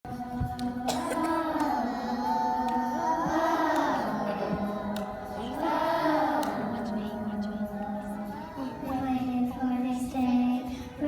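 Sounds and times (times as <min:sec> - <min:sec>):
high voice singing: 0:00.1 - 0:10.5.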